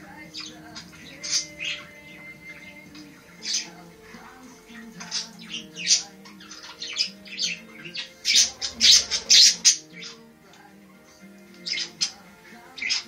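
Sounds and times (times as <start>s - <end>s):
music with low notes: 0.0s - 13.0s
budgerigar squawking: 0.2s - 10.3s, 11.6s - 13.0s.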